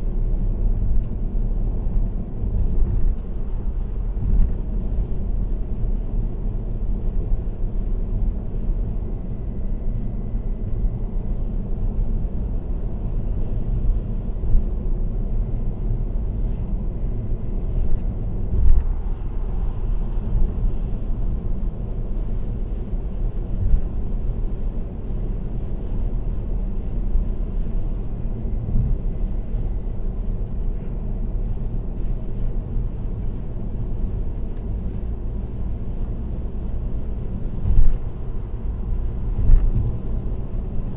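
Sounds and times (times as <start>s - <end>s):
tyre and road noise: 0.0s - 40.9s.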